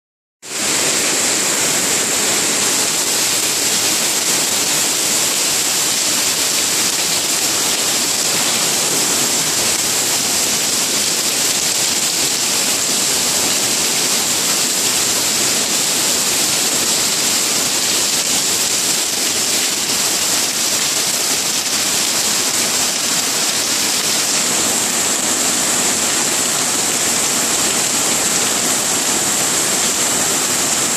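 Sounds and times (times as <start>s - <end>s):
heavy rain pouring: 0.4s - 30.9s.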